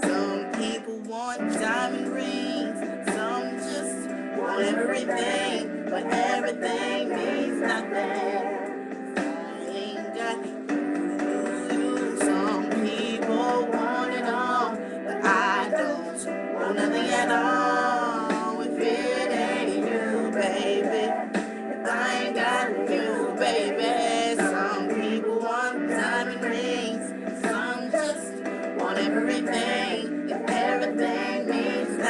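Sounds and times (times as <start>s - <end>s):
backing music: 0.0s - 32.0s
person singing with vibrato: 0.0s - 32.0s.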